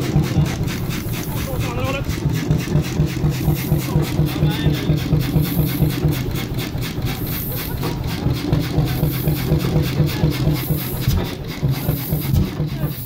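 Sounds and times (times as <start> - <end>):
engine knocking beat: 0.0 - 13.0.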